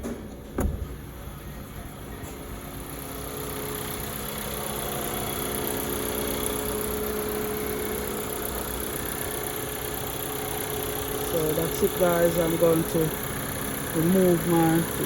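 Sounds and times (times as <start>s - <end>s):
air conditioning hum: 0.0s - 15.0s
car engine idling: 0.3s - 15.0s.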